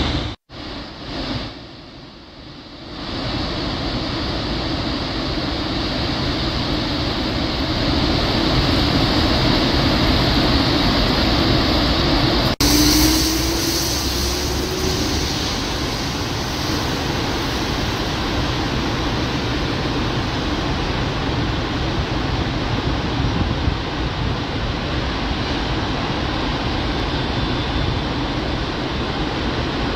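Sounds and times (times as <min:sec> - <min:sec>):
floodwater roaring through spillway: 0:02.8 - 0:29.9.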